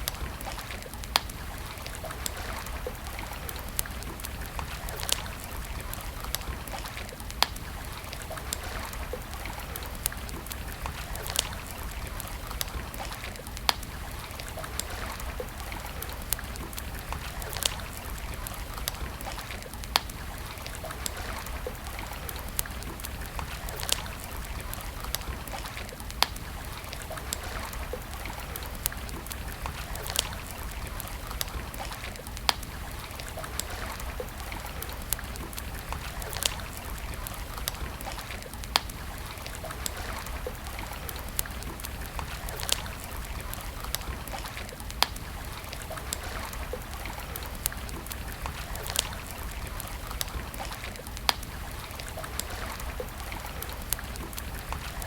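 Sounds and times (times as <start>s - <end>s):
campfire crackling and popping: 0.0s - 55.0s
fire hiss and low rumble: 0.0s - 55.0s.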